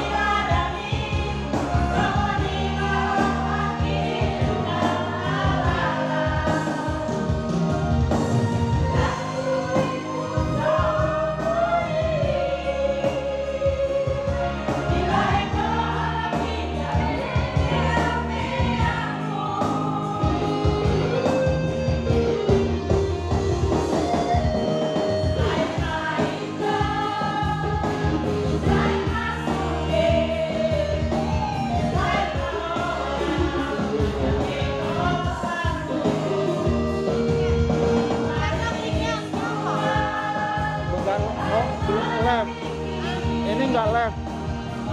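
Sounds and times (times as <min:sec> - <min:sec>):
song with singing voices: 0:00.0 - 0:44.9.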